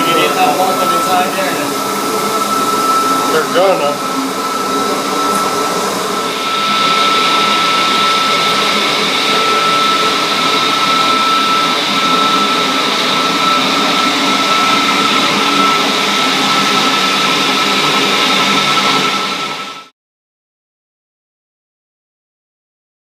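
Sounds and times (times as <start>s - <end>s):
high-pitched whine: 0.0s - 19.9s.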